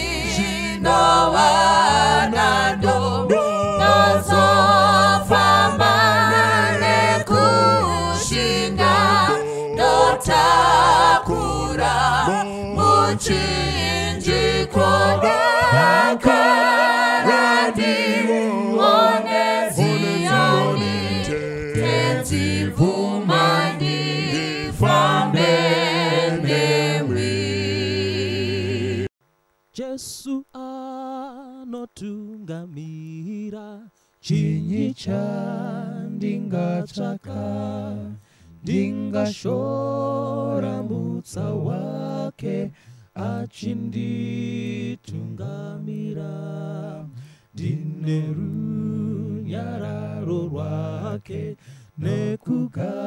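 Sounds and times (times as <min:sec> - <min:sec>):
choir singing a hymn: 0:00.0 - 0:29.1, 0:34.3 - 0:53.0.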